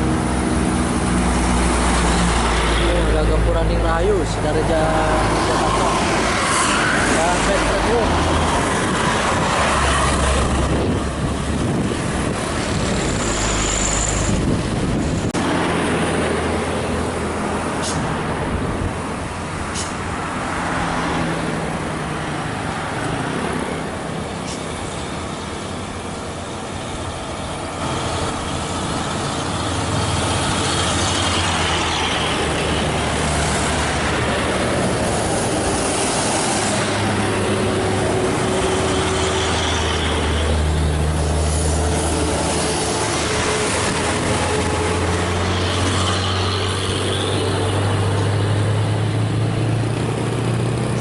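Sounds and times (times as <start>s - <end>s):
buses and trucks passing: 0.0s - 51.0s
steady road noise: 0.0s - 51.0s.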